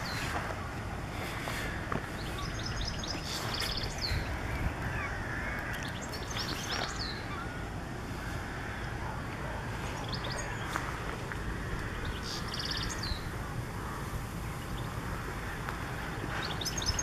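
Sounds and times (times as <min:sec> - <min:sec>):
low outdoor rumble: 0:00.0 - 0:17.0
songbirds chirping and trilling: 0:00.0 - 0:17.0.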